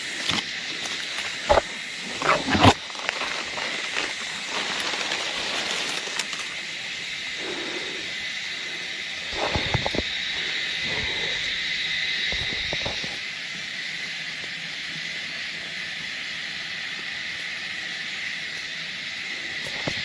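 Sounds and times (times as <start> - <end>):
high-pitched hiss with held tone: 0.0 - 20.0.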